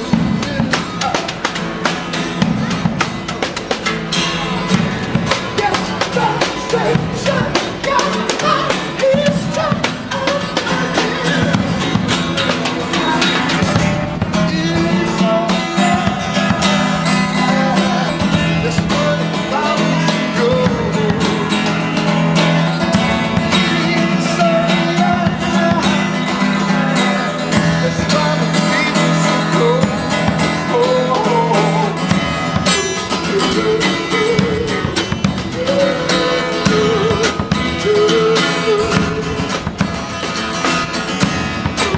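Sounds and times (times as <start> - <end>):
guitar strumming: 0.0 - 41.9
percussion: 0.0 - 41.9.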